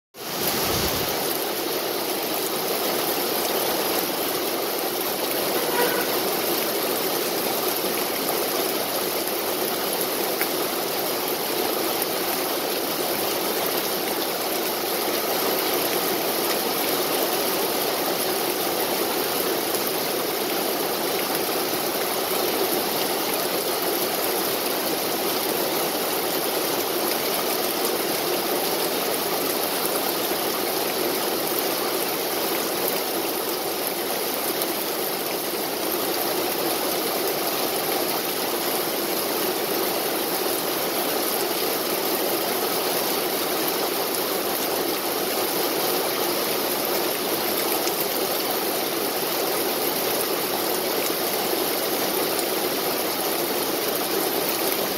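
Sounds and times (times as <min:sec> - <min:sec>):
rain falling on trees and grass: 0:00.2 - 0:54.9.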